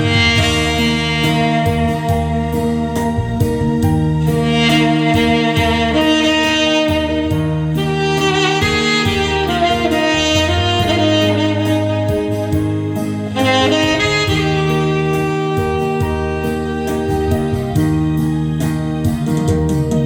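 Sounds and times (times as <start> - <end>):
tenor saxophone melody: 0.0 - 19.5
bass line: 0.0 - 20.0
light steady beat: 0.0 - 20.0.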